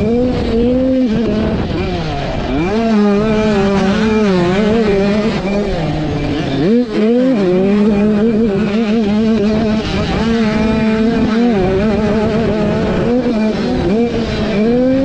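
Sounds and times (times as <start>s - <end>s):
two-stroke engine at high revs: 0.0s - 15.0s.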